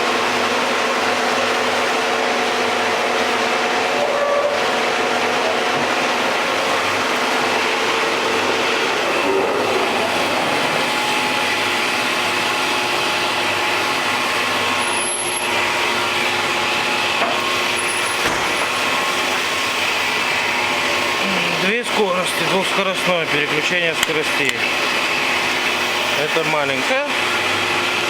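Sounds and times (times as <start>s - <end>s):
woodworking machinery running: 0.0s - 28.0s.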